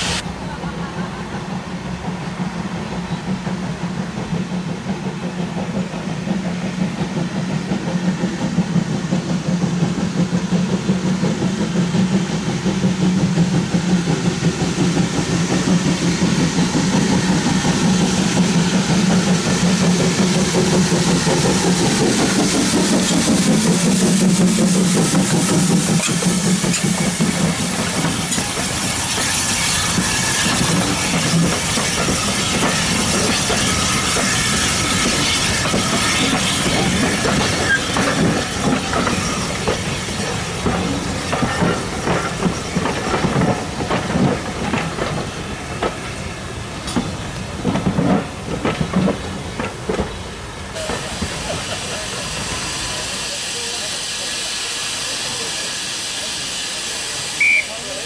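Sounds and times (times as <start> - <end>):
steam locomotive working: 0.0 - 58.0
train wheels on rails: 0.0 - 58.0.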